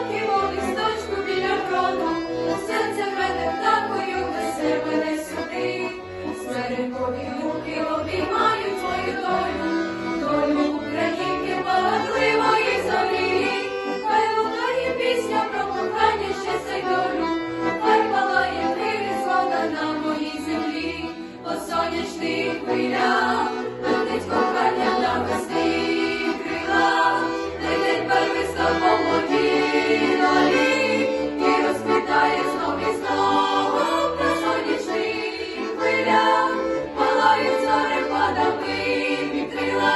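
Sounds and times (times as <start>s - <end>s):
instrumental accompaniment: 0.0s - 39.9s
vocal group singing: 0.0s - 39.9s.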